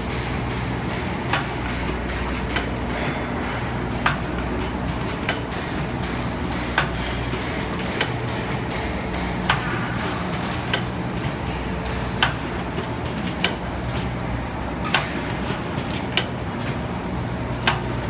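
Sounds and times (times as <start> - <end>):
machine drive hum: 0.0 - 18.0.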